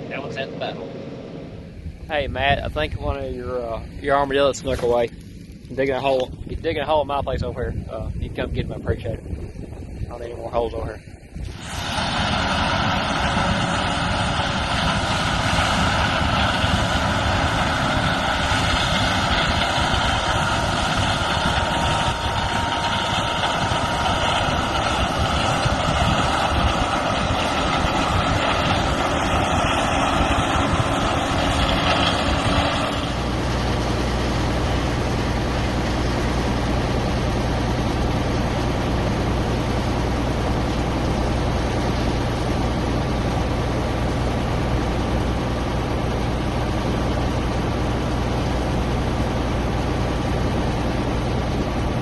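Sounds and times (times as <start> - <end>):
heavy farm machinery engine: 0.0 - 52.0.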